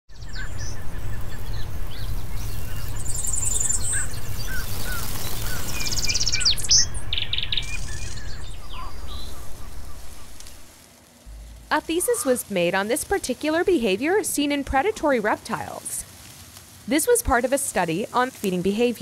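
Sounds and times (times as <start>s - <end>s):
birds chirping and trilling: 0.1s - 15.8s
low steady rumble: 0.2s - 15.6s.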